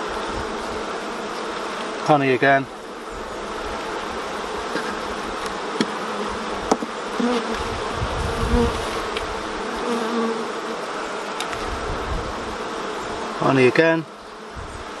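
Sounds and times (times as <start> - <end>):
bee colony buzzing: 0.0 - 15.0
bees droning past: 0.0 - 15.0.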